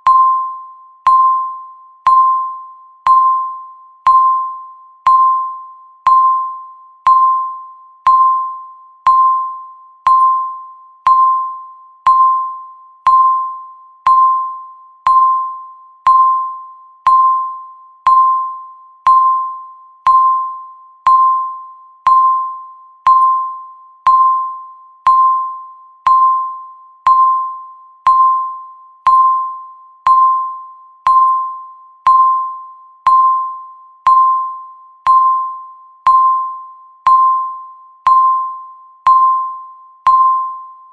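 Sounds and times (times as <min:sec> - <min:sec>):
timer beeping: 0:00.0 - 0:40.9.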